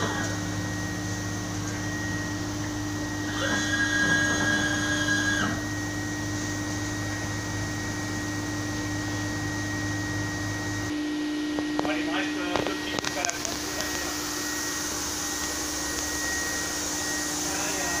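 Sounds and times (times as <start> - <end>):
high-pitched mechanical whine: 0.0 - 18.0
paper cutter motor hum: 0.0 - 18.0.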